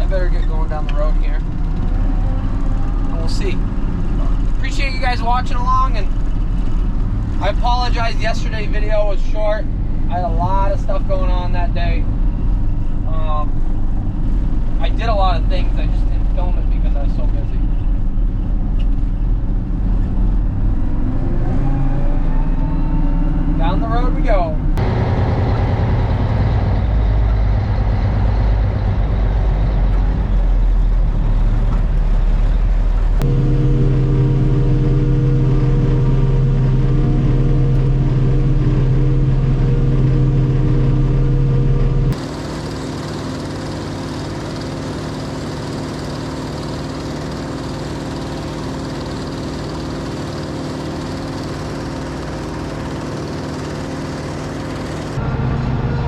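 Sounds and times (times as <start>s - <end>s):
farm vehicle engine running: 0.0s - 22.2s, 22.9s - 56.0s
strong low drone: 0.0s - 56.0s.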